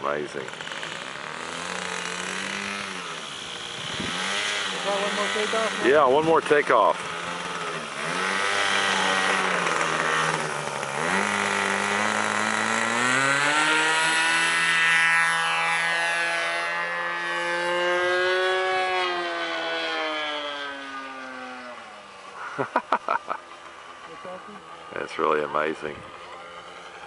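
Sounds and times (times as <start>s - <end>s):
model airplane engine: 0.0s - 27.0s.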